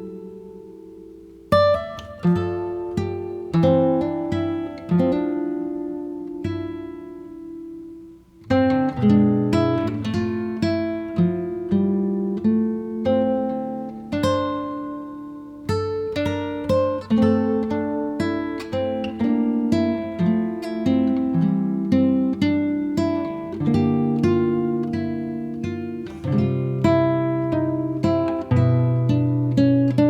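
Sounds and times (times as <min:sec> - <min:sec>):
acoustic guitar plucking: 0:00.0 - 0:30.0.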